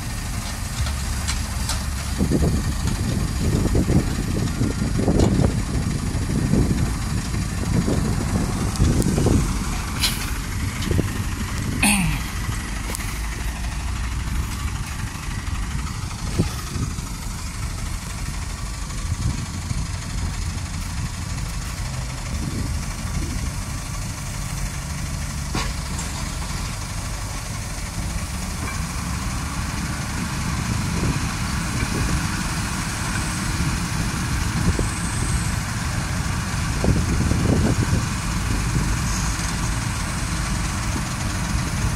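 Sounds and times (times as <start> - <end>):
diesel engines rumbling: 0.0 - 41.9.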